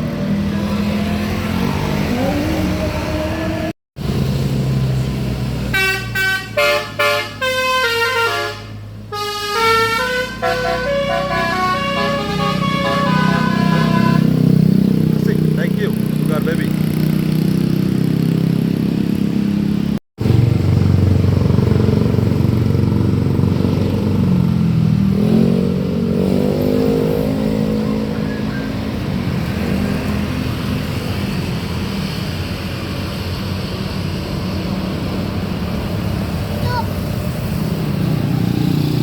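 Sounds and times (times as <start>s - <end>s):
traffic engines passing: 0.0s - 39.0s.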